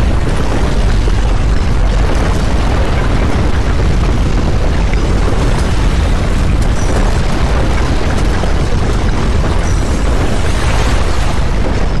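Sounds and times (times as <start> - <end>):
earthquake rumble: 0.0 - 12.0.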